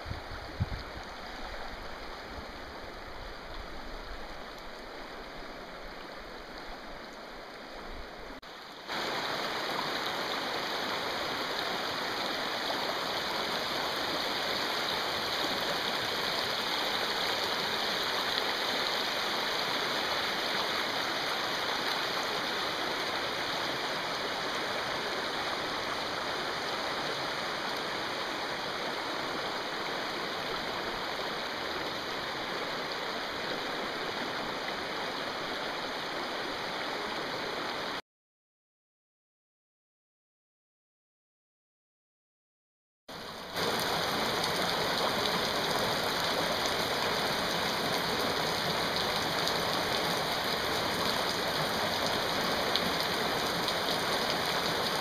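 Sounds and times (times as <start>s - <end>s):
rapids rushing over rocks: 0.0s - 38.0s, 43.2s - 55.0s
river water over stones: 0.0s - 38.0s, 43.1s - 55.0s.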